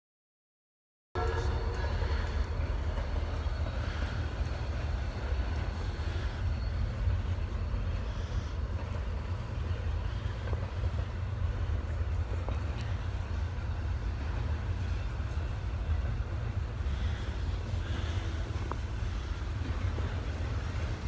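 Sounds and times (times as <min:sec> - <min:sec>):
freight train rumbling on rails: 0:01.2 - 0:21.0.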